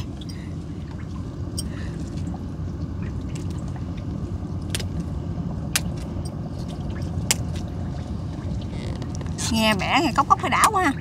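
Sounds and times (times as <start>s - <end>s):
low rumble: 0.0s - 11.0s
water dripping and splashing: 0.0s - 11.0s.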